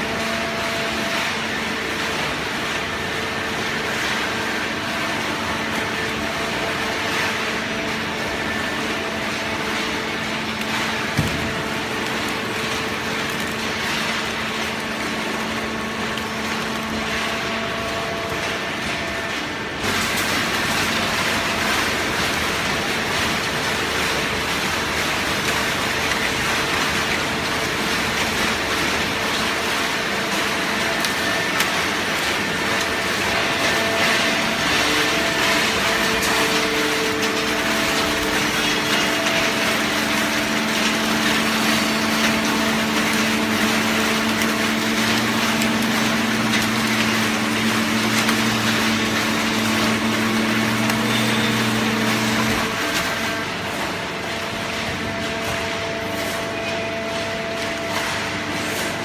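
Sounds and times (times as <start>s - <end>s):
baler machine running: 0.0s - 59.0s.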